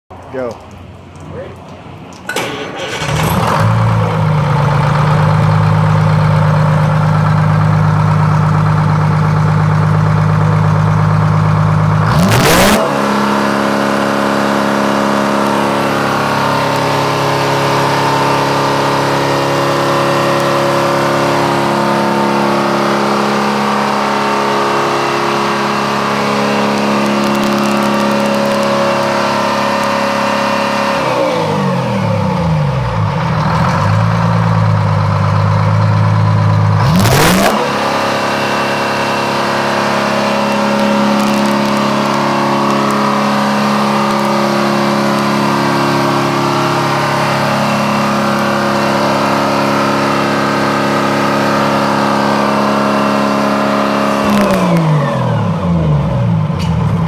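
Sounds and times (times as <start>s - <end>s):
diesel engine idling and revving: 0.1s - 57.0s.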